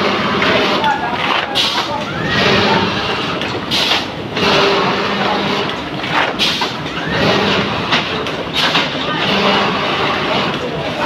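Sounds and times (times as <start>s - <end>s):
printing machine mechanical din: 0.0s - 11.0s
rushing bursts of machine: 0.0s - 11.0s.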